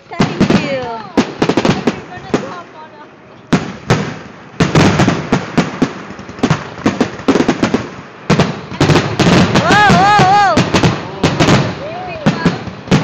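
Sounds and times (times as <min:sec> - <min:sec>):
firework bangs: 0:00.0 - 0:13.0
fireworks crackling pops: 0:00.0 - 0:13.0.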